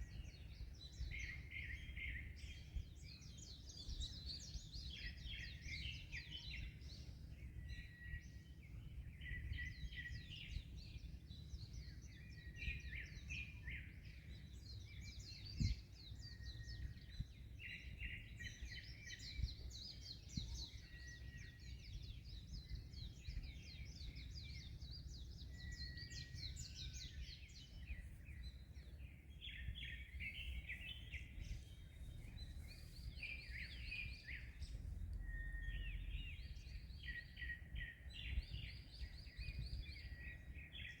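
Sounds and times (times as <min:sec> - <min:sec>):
small birds chirping and singing: 0:00.0 - 0:41.0.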